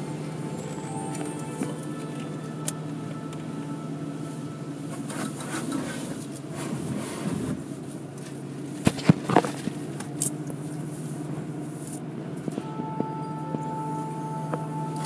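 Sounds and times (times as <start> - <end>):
car wash machinery hum: 0.0 - 15.0.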